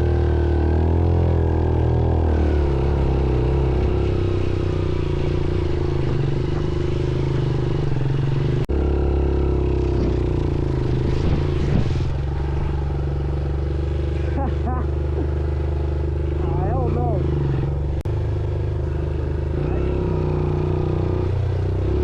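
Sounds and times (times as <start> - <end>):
off-road motorcycle engine running: 0.0 - 22.0.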